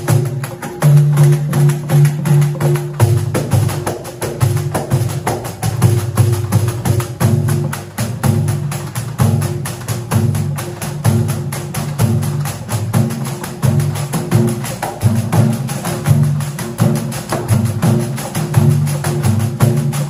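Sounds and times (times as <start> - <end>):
hand drums pounding: 0.0 - 20.0.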